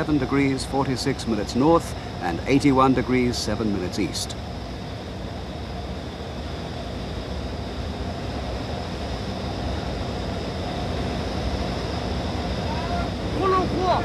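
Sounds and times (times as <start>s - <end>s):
aircraft engine droning in cabin: 0.0s - 14.0s.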